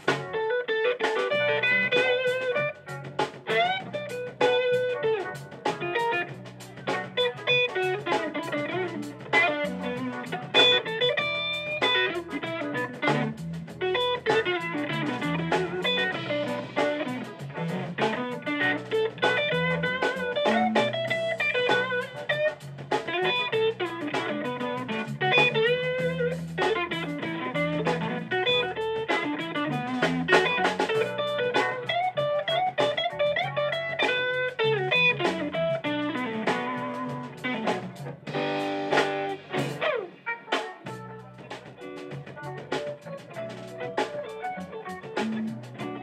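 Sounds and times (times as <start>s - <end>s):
bass guitar: 0.0s - 46.0s
drums: 0.0s - 46.0s
electric guitar lead: 0.0s - 46.0s.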